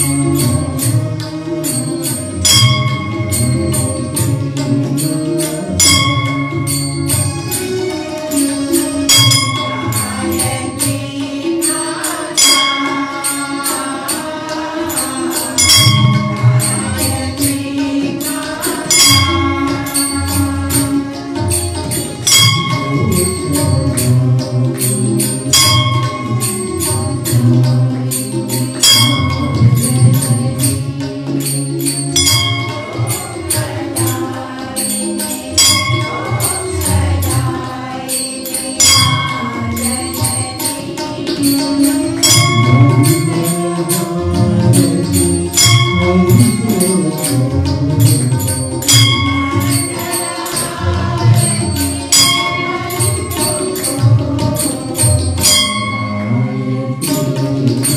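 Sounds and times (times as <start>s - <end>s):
ringing bell strike: 0.0s - 7.8s, 8.4s - 57.9s
chanting voices: 0.0s - 57.9s
jingling percussion: 0.0s - 57.9s.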